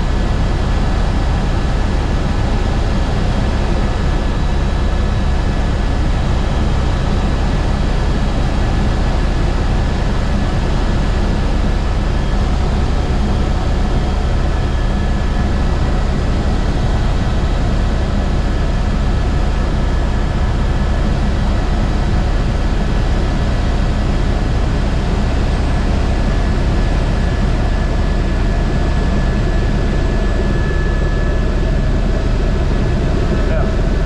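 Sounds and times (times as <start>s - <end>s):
helicopter drone: 0.0s - 34.0s
turbine whine: 0.0s - 34.0s.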